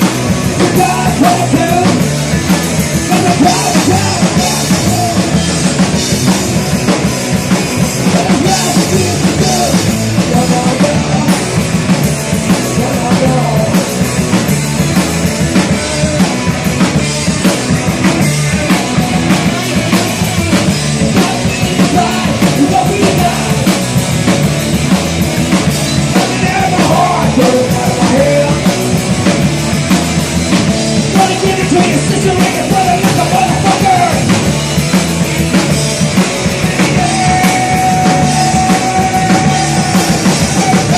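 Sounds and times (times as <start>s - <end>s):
drum kit beat: 0.0s - 40.9s
live rock band playing: 0.0s - 40.9s.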